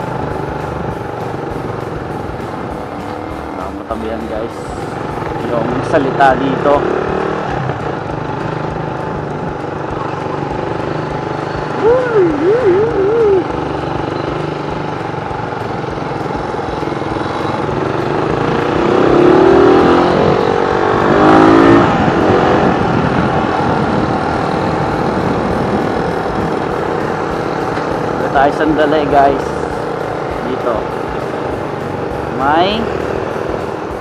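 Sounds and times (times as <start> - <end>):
motorcycle engine revving: 0.0 - 34.0
road and wind noise: 0.0 - 34.0.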